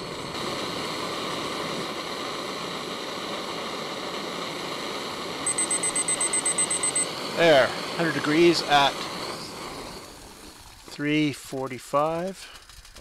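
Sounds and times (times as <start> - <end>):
gas stove hissing: 0.0 - 13.0.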